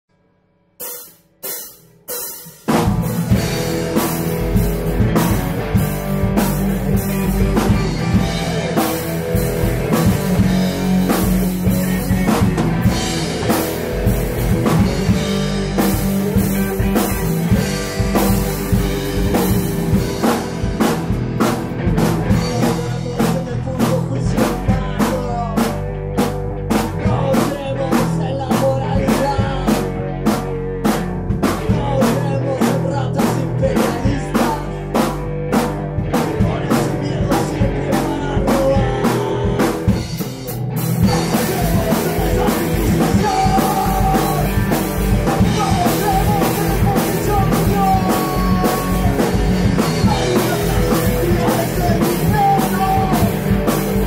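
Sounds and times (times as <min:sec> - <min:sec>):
punk rock band playing: 0:00.8 - 0:54.0.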